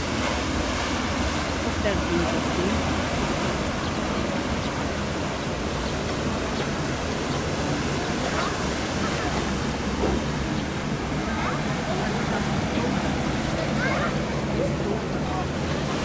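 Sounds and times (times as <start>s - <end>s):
paddle wheels churning water: 0.0s - 16.0s.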